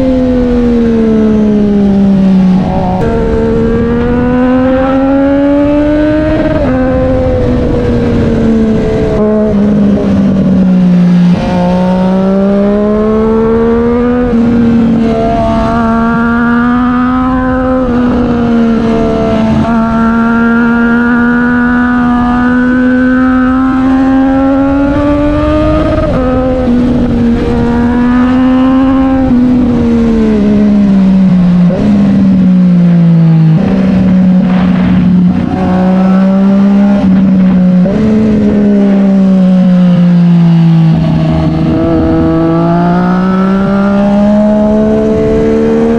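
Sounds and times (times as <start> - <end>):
motorcycle engine running hard: 0.0 - 45.9.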